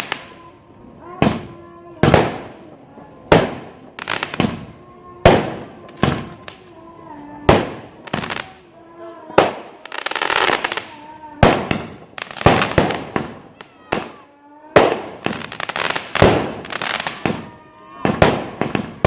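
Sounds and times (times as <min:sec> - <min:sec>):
faint background voices: 0:00.0 - 0:19.0
fireworks banging: 0:00.0 - 0:19.0
fireworks crackling: 0:00.0 - 0:19.0.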